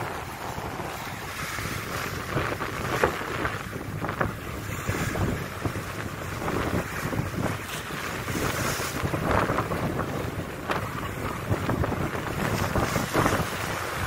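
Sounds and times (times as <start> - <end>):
water rushing along boat hull: 0.0 - 14.0
wind buffeting microphone: 0.0 - 14.0.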